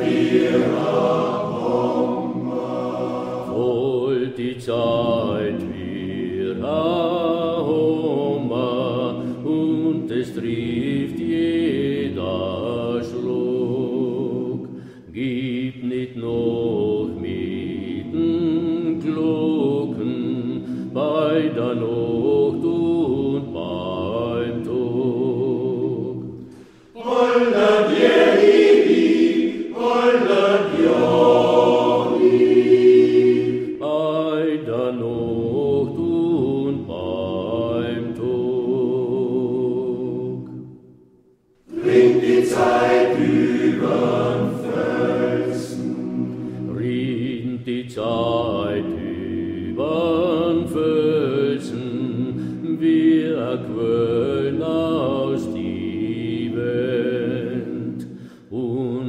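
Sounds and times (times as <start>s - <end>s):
men's choir singing: 0.0s - 26.4s, 27.0s - 40.4s, 41.7s - 59.0s.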